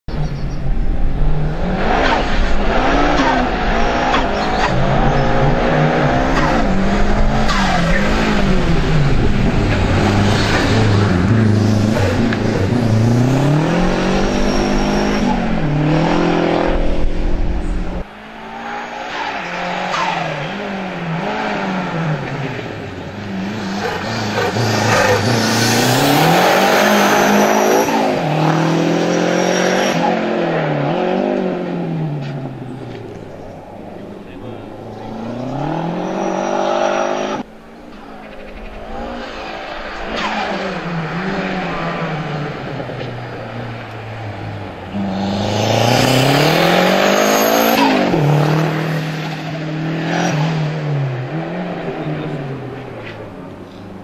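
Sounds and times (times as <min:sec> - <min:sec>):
race car engine revving: 0:01.0 - 0:53.9.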